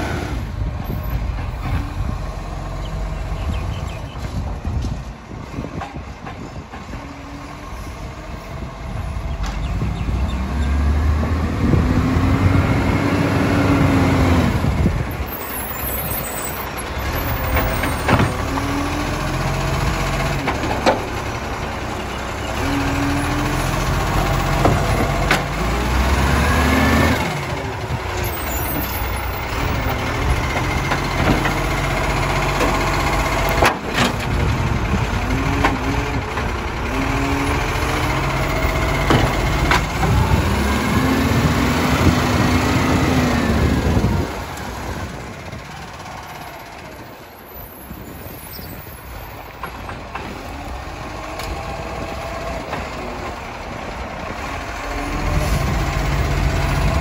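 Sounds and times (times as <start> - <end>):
truck engine revving: 6.9 - 57.0.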